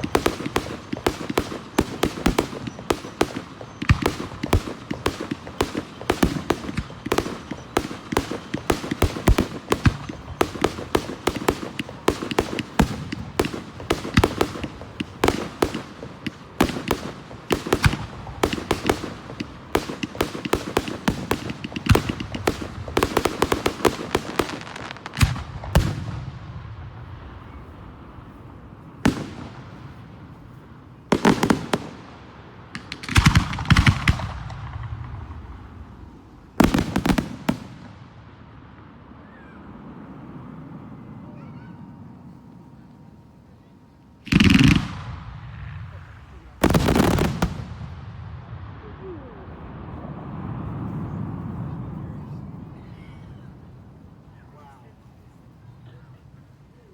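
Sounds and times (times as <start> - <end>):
fireworks bangs and crackling: 0.0 - 40.0, 44.2 - 54.9.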